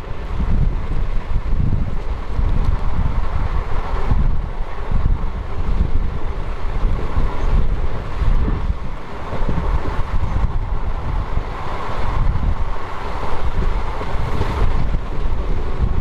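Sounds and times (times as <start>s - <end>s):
train rumbling: 0.0s - 16.0s
wind buffeting microphone: 0.0s - 16.0s.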